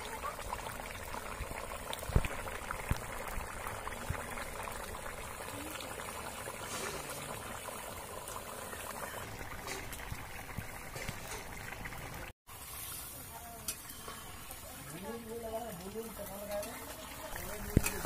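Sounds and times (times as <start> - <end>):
curry bubbling in a wok: 0.0 - 18.0.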